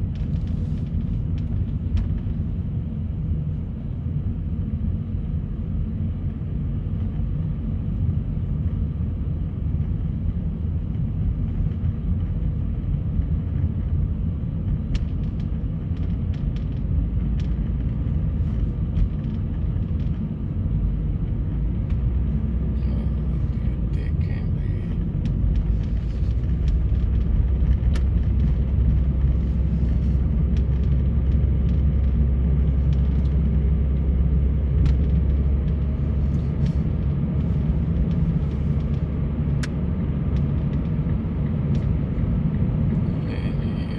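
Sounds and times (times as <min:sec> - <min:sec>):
car engine and tyres rumbling: 0:00.0 - 0:43.9.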